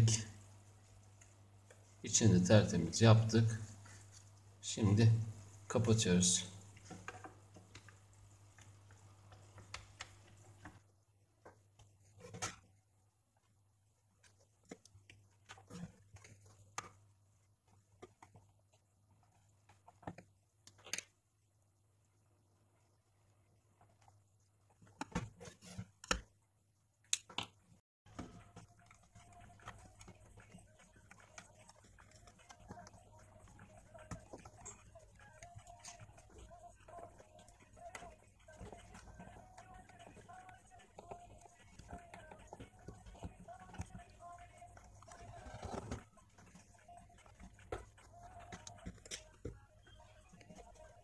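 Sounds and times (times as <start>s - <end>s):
faint steady hiss with crackling: 0.0s - 51.0s.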